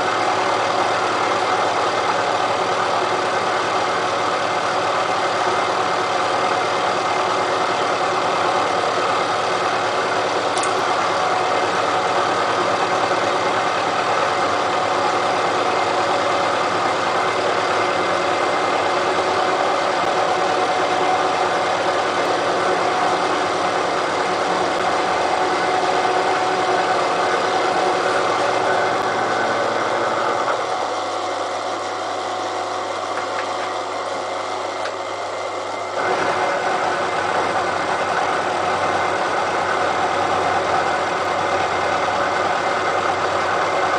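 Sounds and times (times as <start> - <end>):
milling machine cutting steel: 0.0 - 43.8.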